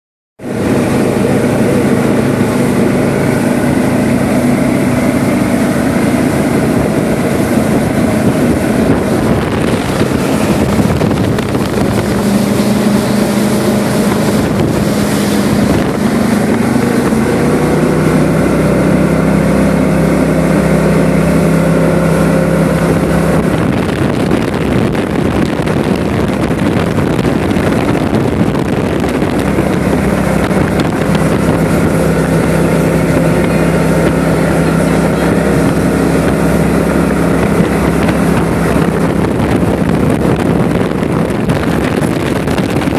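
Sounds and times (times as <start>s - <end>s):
speedboat engine running: 0.4s - 42.9s
wind on microphone: 0.4s - 42.9s.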